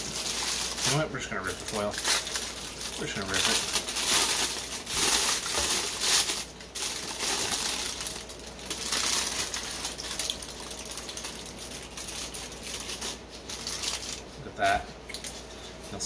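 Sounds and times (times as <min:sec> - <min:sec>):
aluminium foil crinkling: 0:00.0 - 0:14.4.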